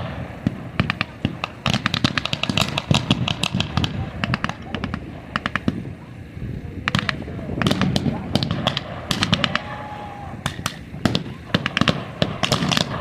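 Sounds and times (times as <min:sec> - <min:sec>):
gunshots: 0:00.0 - 0:05.8, 0:06.9 - 0:09.8, 0:10.4 - 0:13.0
background rumble: 0:00.0 - 0:13.0.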